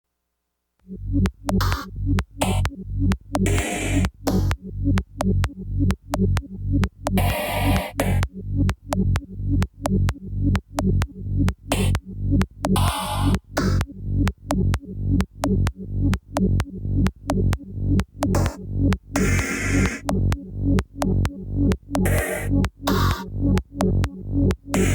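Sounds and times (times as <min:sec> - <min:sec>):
deep kick drum: 0:01.1 - 0:24.9
electronic dance music: 0:01.2 - 0:24.9.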